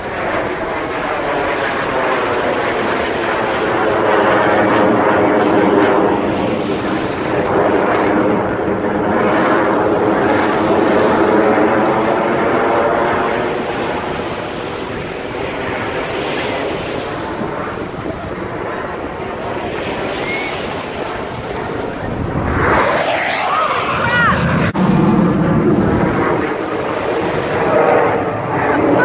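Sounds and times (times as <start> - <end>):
jet aircraft engine roar: 0.0 - 29.0
wind buffeting microphone: 0.0 - 29.0.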